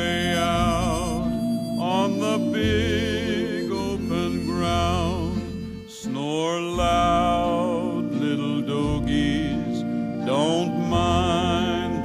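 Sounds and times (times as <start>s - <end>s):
instrumental cowboy-song music: 0.0s - 12.0s.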